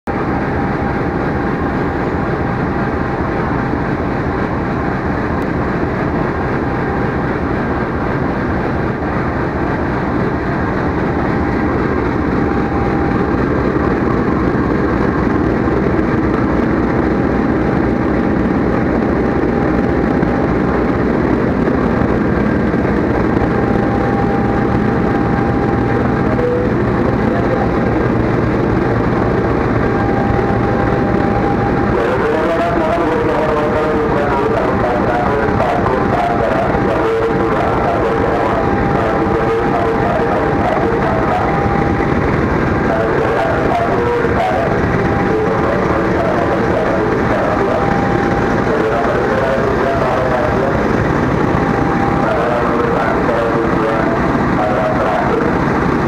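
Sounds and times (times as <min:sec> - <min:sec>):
faint steady whine: 0:00.1 - 0:56.0
locomotive engine idling: 0:00.1 - 0:56.0.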